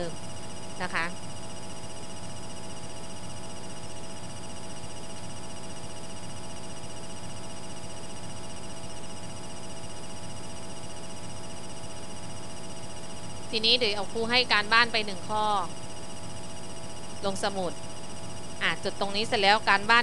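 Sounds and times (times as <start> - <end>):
electrical buzz: 0.0 - 20.0.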